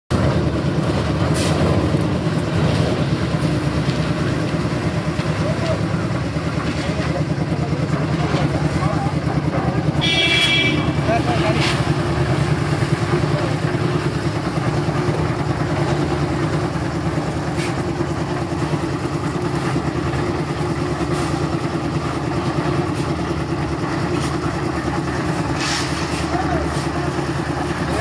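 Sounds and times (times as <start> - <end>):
concrete mixer engine running: 0.1 - 28.0.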